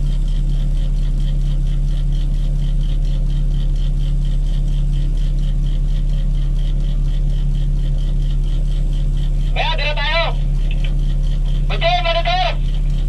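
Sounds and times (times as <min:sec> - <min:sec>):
crane diesel engine humming: 0:00.0 - 0:13.0
fast high-pitched ticking: 0:00.0 - 0:13.0.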